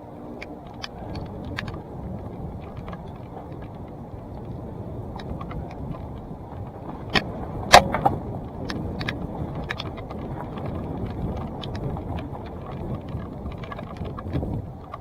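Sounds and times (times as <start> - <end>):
bike clicks and rattles: 0.0 - 15.0
bike tyres rumbling on dirt: 0.0 - 15.0
wind on camera: 0.0 - 15.0.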